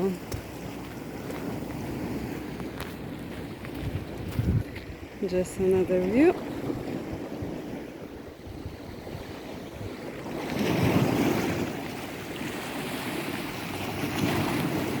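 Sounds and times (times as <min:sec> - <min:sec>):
sea waves washing ashore: 0:00.0 - 0:15.0
wind buffeting microphone: 0:00.0 - 0:15.0.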